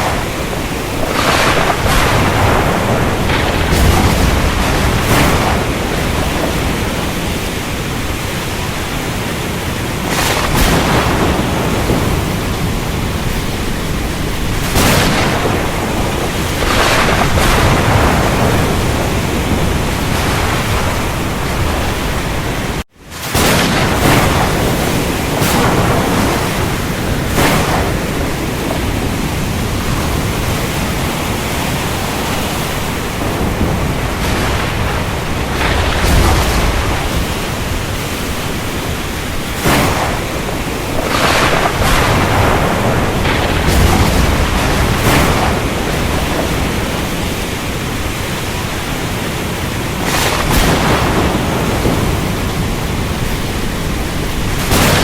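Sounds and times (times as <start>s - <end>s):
heavy rain: 0.0s - 55.0s
thunder: 0.0s - 55.0s.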